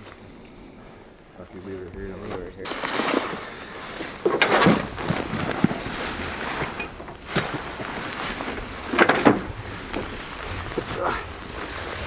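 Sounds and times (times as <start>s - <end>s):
rustling jacket and dry grass: 0.0s - 12.0s.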